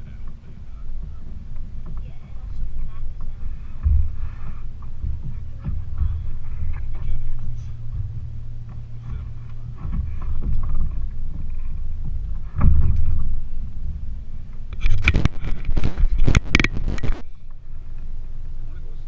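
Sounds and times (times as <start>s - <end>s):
gear knocking on canoe hull: 0.0s - 16.8s
low rumble: 0.0s - 19.0s.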